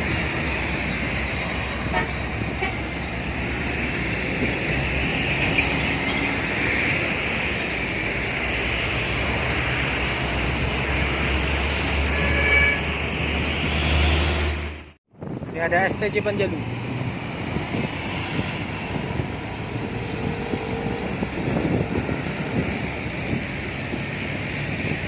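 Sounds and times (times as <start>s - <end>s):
heavy road traffic passing: 0.0s - 25.0s.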